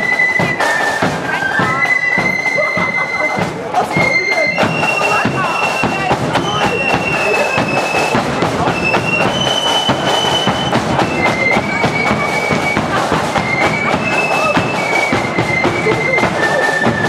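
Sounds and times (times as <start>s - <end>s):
rapid drum beat: 0.0s - 17.0s
shrill flutes playing: 0.0s - 17.0s.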